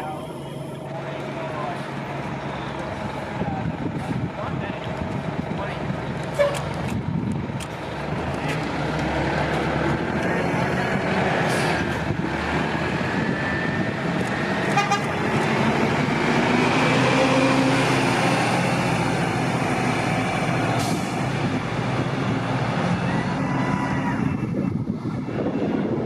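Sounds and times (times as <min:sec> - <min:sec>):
bus accelerating past: 0:00.0 - 0:26.0.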